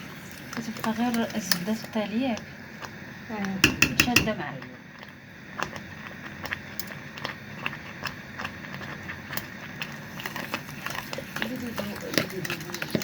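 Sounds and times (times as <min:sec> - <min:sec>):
utensil clicking against pot: 0:00.5 - 0:04.4, 0:05.0 - 0:13.0.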